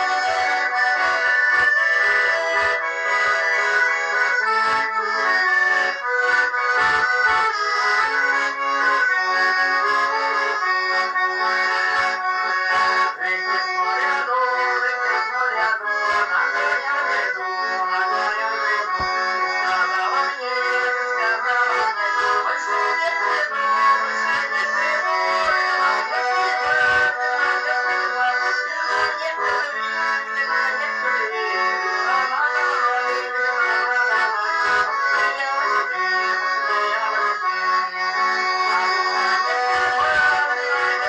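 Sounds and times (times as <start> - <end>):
button accordion playing a tune: 0.0 - 41.0.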